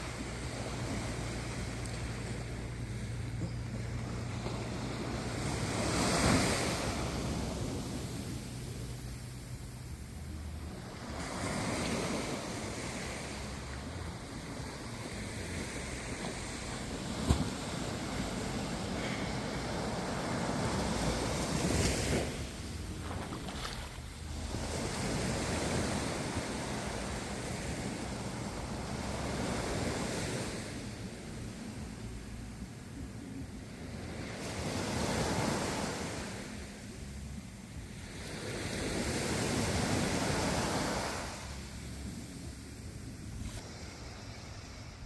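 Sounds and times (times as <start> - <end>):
ocean waves washing: 0.0 - 45.0
wind rumbling on microphone: 0.0 - 45.0.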